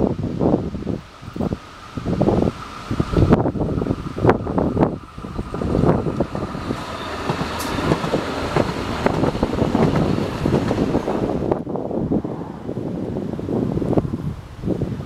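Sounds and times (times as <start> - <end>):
tram wheels running on rails: 0.0 - 15.0
wind on the microphone: 0.0 - 15.0.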